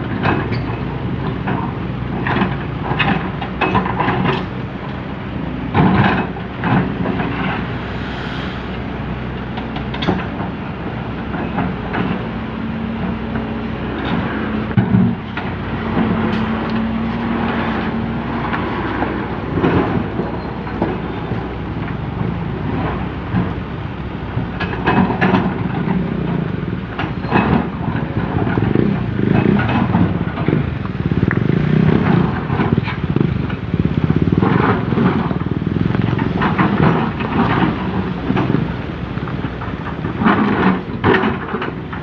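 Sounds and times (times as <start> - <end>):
excavator diesel engine under load: 0.0 - 42.0.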